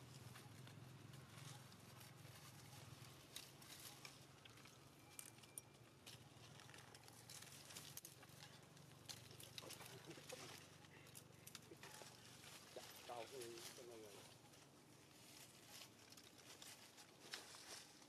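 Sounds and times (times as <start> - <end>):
crackles of dry leaf litter: 0.0 - 18.0.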